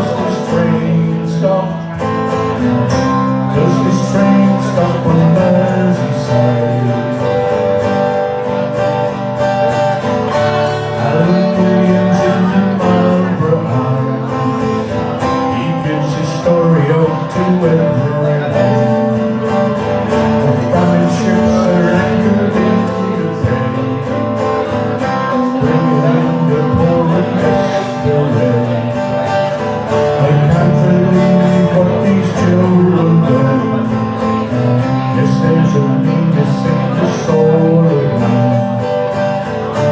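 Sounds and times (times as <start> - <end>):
person singing: 0.0 - 39.9
strummed acoustic guitar: 0.0 - 39.9.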